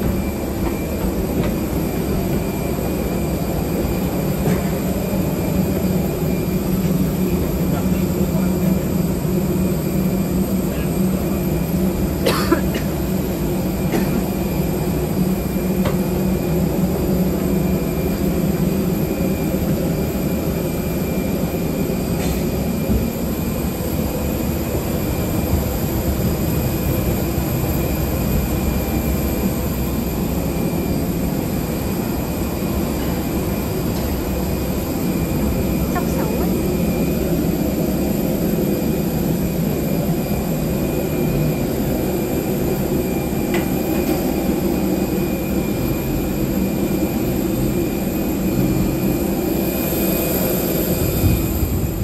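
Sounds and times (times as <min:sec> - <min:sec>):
airliner cabin hum: 0:00.0 - 0:52.0.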